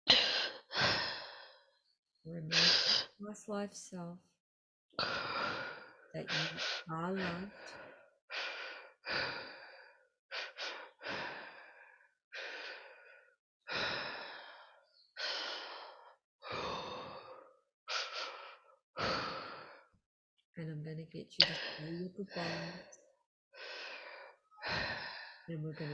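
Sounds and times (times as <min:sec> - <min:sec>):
woman breathing deeply: 0:00.1 - 0:01.9, 0:05.0 - 0:20.0, 0:21.4 - 0:25.9.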